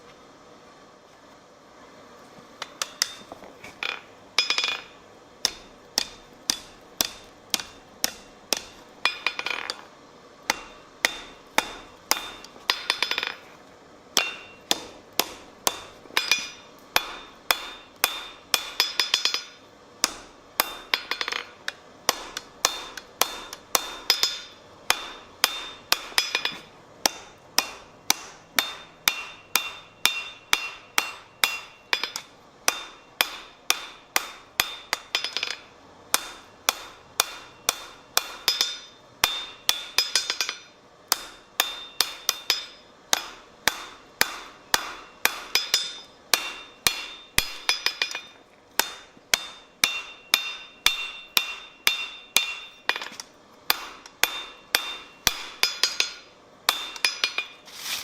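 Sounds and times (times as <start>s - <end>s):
hammer striking metal on anvil: 2.6s - 9.9s, 10.5s - 13.4s, 14.2s - 57.6s.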